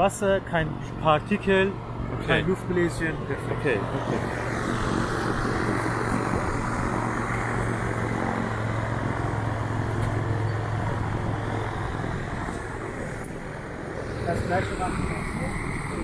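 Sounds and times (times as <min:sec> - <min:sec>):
engine low hum: 0:00.0 - 0:16.0.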